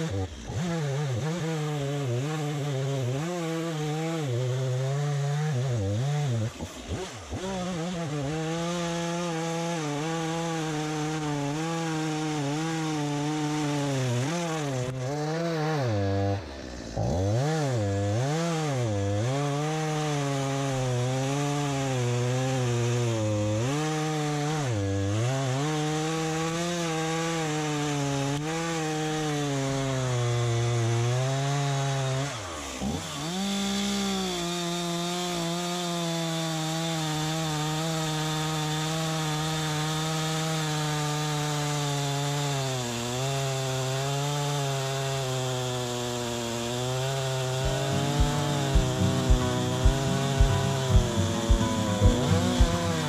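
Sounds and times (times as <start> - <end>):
chainsaw cutting through log: 0.0 - 53.0.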